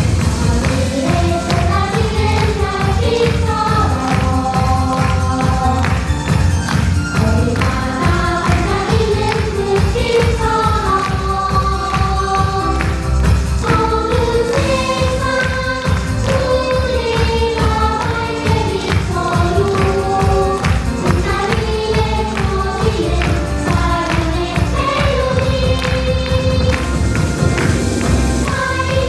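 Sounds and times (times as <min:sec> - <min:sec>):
music accompaniment with beat: 0:00.0 - 0:29.0
worship team singing: 0:00.0 - 0:29.0.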